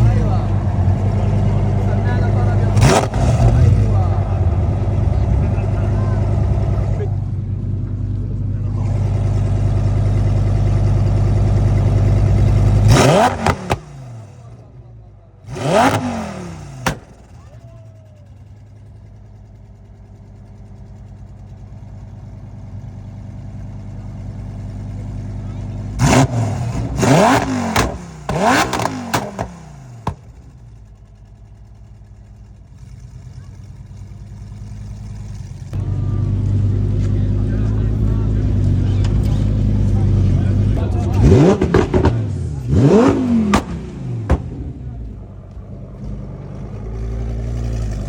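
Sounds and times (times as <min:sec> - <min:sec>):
car engine droning: 0:00.0 - 0:48.0.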